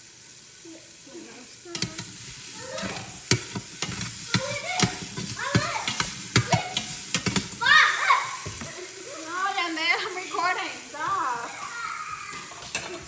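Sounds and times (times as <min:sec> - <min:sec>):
food sizzling with pops and crackles: 0:00.0 - 0:13.0.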